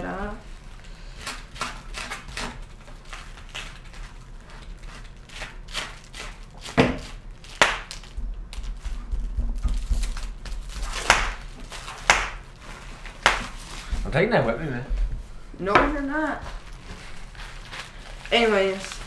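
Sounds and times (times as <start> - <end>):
plastic wrapping rustling: 0.5 - 19.0.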